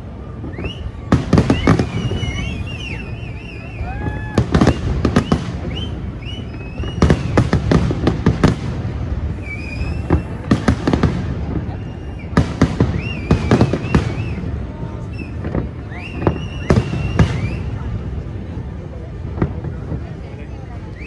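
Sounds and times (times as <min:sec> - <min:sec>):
firework whistles: 0:00.0 - 0:18.2, 0:20.7 - 0:21.0.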